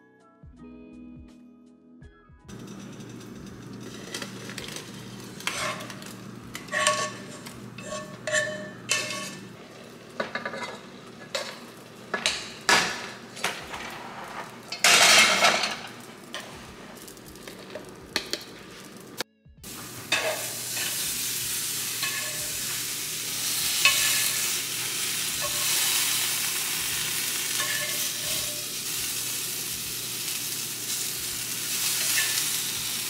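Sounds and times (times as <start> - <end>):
fork scraping a skillet: 2.5 - 33.0.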